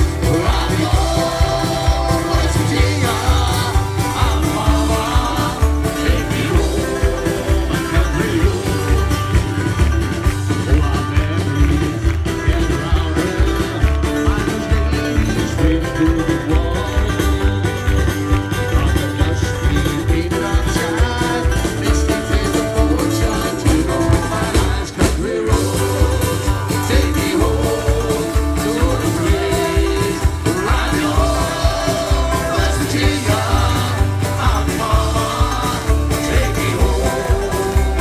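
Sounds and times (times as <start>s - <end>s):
person singing: 0.0s - 9.8s, 10.5s - 17.9s, 18.7s - 38.0s
live band playing: 0.0s - 38.0s.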